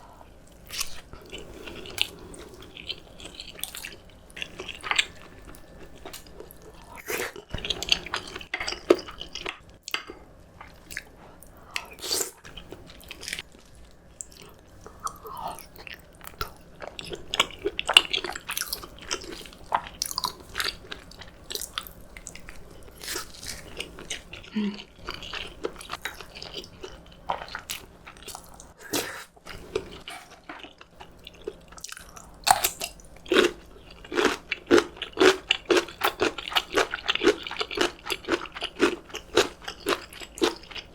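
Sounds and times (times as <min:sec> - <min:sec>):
person chewing crunchy food: 0:00.5 - 0:10.0, 0:10.6 - 0:40.9.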